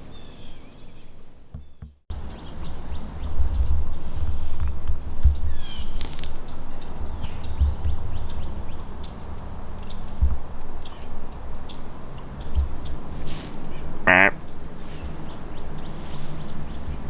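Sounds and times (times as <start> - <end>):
small birds chirping: 0.0 - 17.0
dull thumps: 1.5 - 2.4, 3.0 - 17.0.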